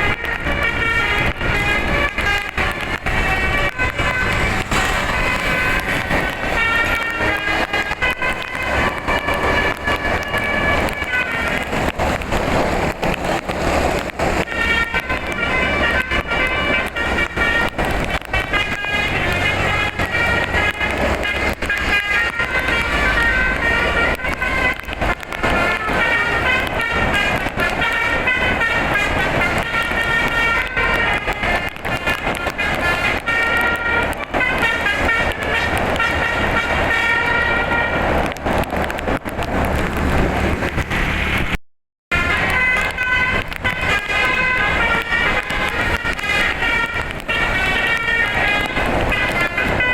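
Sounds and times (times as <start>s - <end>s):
air horns playing a melody: 0.0s - 40.2s, 42.1s - 49.9s.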